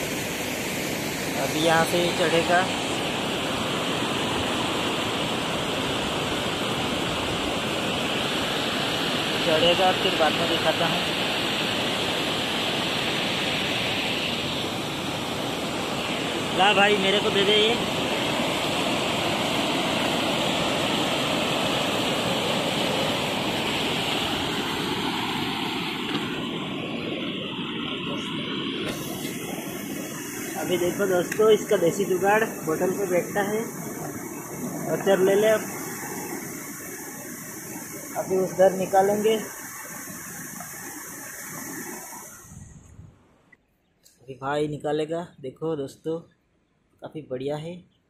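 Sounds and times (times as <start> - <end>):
river water rushing: 0.0 - 42.6.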